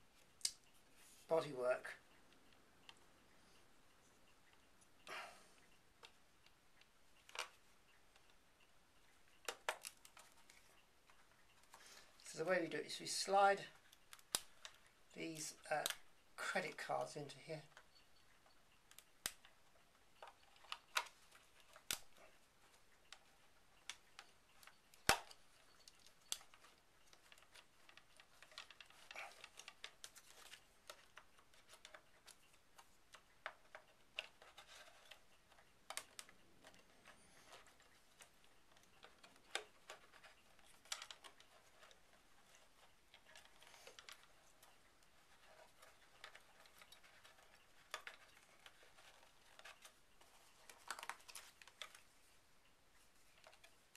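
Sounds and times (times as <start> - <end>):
plastic cards clicking and scraping: 5.6 - 8.4, 9.2 - 18.0, 18.8 - 52.4, 53.0 - 53.9.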